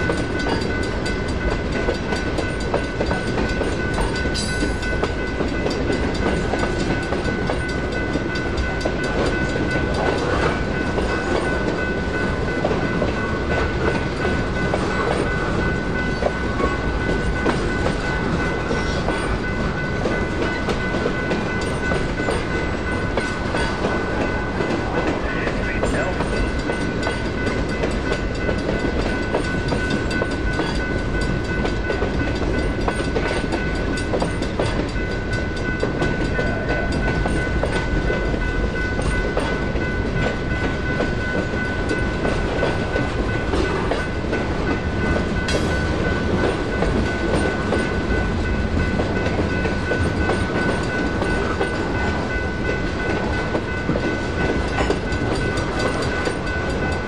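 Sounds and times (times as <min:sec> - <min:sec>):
crossing warning bells ringing: 0:00.0 - 0:57.0
train wheels clattering over rails: 0:00.0 - 0:57.0.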